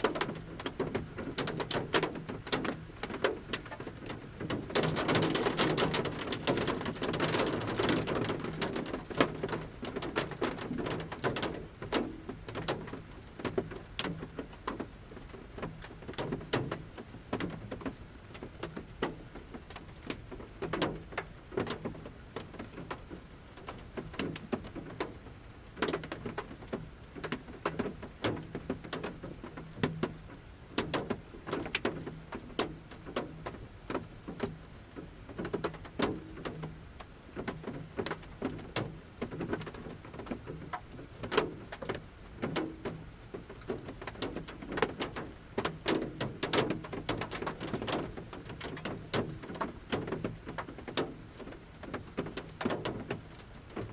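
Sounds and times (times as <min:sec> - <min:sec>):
light rain patter: 0:00.0 - 0:53.9
raindrops tapping on metal roof: 0:00.0 - 0:53.9.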